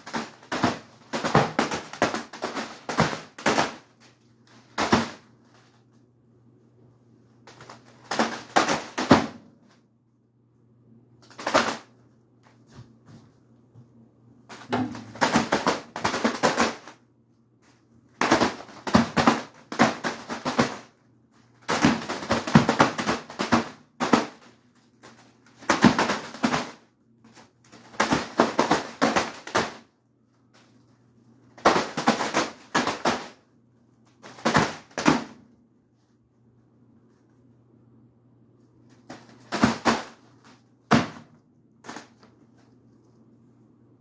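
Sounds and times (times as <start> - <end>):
fan blades slapping a balloon: 0.0 - 6.2, 7.3 - 10.0, 11.2 - 37.5, 38.5 - 43.3.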